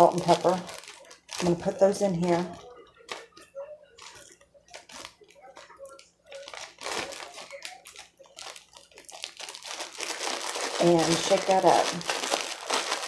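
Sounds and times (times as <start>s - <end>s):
plastic bag rustling and crinkling: 0.0s - 13.0s.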